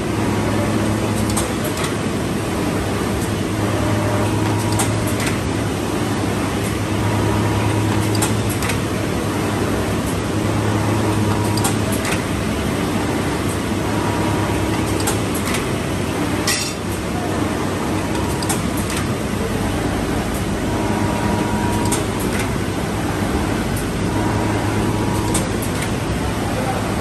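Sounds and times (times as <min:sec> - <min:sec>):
machine motor hum: 0:00.0 - 0:27.0.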